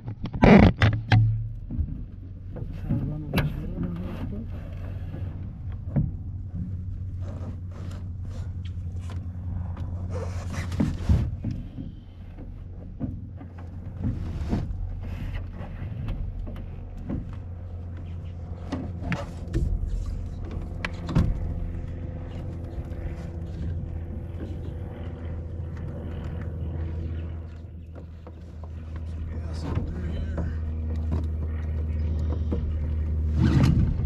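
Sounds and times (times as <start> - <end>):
outboard motor idling: 0.0 - 34.0.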